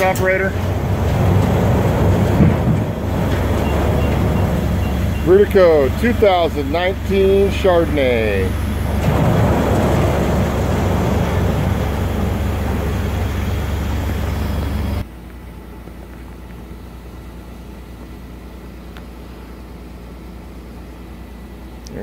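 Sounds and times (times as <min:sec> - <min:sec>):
forklift engine rumbling: 0:00.0 - 0:22.0.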